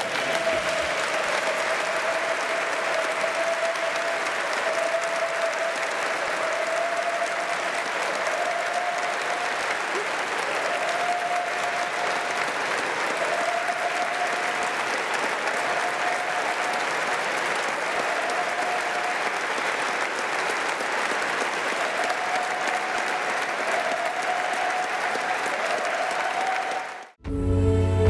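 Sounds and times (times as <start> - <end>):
crowd applauding: 0.0 - 27.2.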